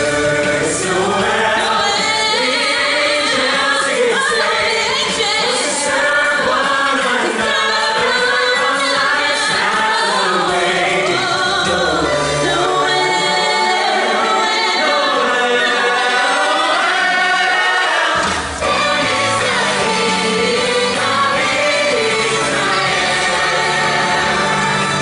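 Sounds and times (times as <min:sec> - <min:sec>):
choir singing with music: 0:00.0 - 0:25.0.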